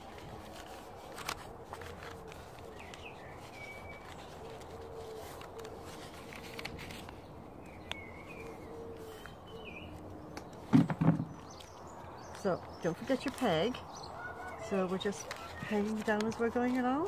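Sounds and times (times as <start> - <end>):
paper pages folding and rustling: 0.0 - 10.6, 13.0 - 17.0
small birds chirping: 0.0 - 17.0.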